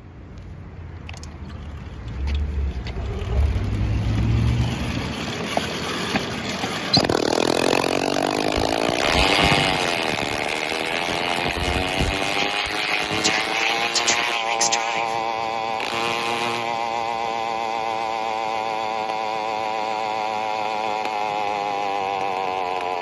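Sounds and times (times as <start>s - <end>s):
unmuffled engine revving: 1.1s - 23.0s.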